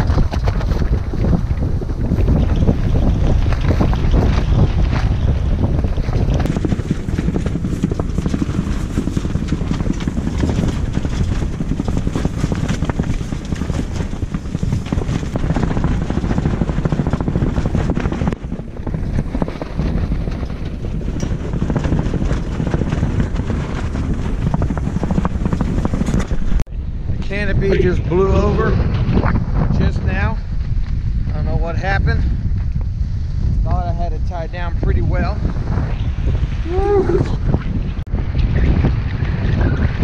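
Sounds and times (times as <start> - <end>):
tent fabric flapping in wind: 0.0 - 40.0
wind buffeting microphone: 0.0 - 40.0.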